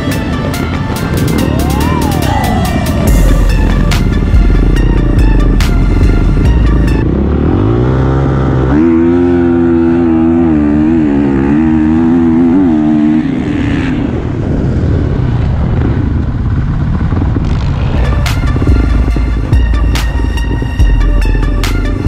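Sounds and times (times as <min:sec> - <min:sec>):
dirt bike engine accelerating: 0:00.0 - 0:22.0.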